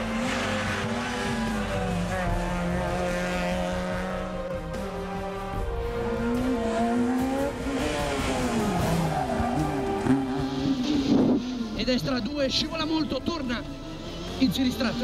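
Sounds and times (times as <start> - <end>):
background music: 0.0 - 15.0
rally car engines revving: 0.0 - 15.0.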